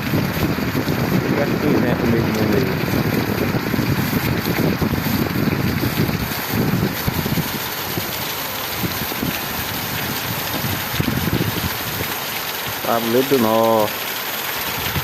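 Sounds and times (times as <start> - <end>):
wind buffeting microphone: 0.0 - 13.4, 14.5 - 15.0
torrential rain pouring: 0.0 - 15.0.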